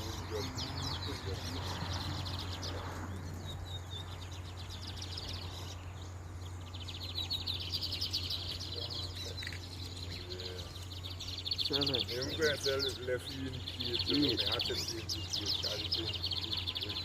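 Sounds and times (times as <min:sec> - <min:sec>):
songbird trilling: 0:00.0 - 0:17.0.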